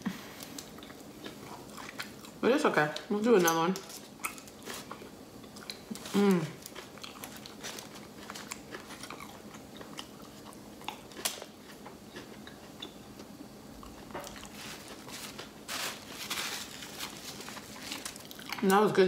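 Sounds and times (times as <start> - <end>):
person chewing crunchy food: 0.1 - 2.4, 3.8 - 18.7.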